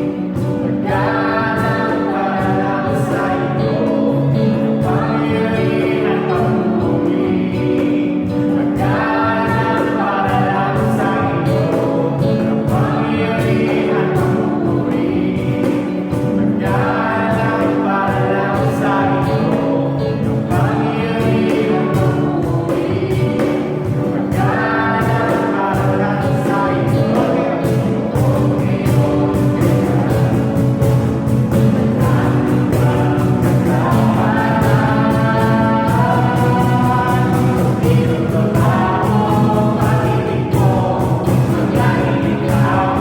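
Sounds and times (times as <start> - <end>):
band with steady beat: 0.0 - 43.0
group singing: 0.0 - 43.0.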